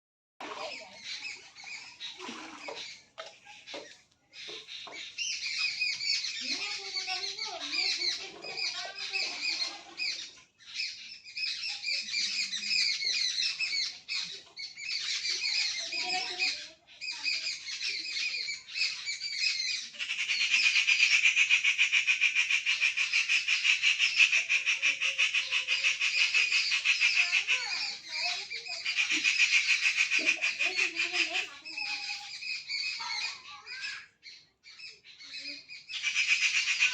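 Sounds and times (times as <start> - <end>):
rapid steady bird chatter: 0.4 - 36.9
small birds chirping and squawking: 0.4 - 36.9.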